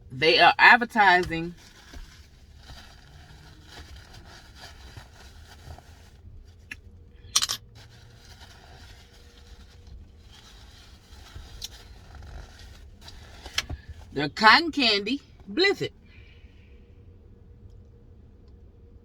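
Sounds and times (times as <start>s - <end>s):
low rumble inside car: 0.0s - 19.0s.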